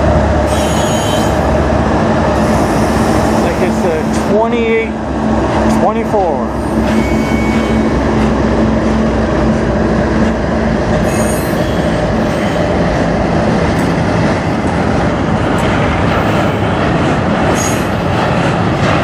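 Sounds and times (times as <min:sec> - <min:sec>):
freight train wheels roaring on rails: 0:00.0 - 0:19.0
locomotive hum: 0:00.0 - 0:19.0.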